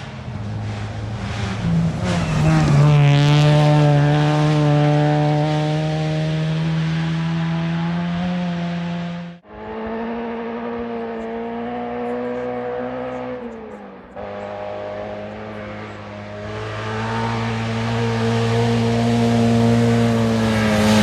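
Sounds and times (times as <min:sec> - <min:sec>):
rally car engines at high revs: 0:00.0 - 0:21.0.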